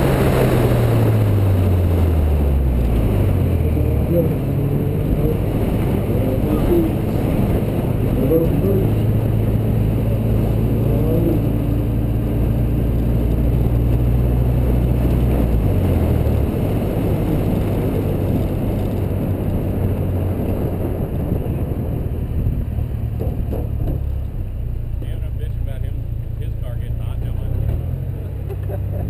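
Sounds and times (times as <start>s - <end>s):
wind on microphone: 0.0s - 24.2s
car engine pulling hard: 0.0s - 29.0s.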